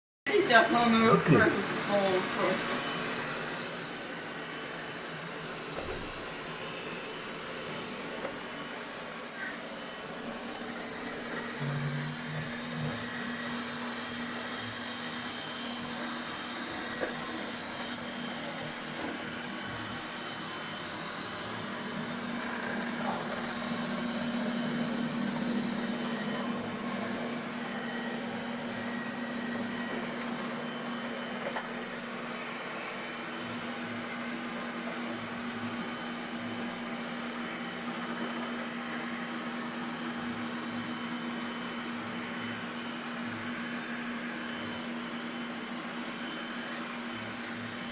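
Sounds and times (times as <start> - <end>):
vacuum cleaner running: 0.3 - 47.9.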